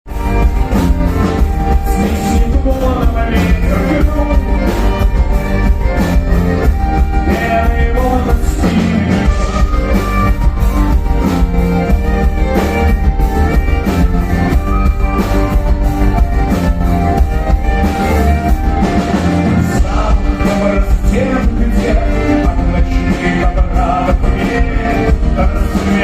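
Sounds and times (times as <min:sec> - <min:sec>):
folk-rock band playing: 0:00.1 - 0:26.0.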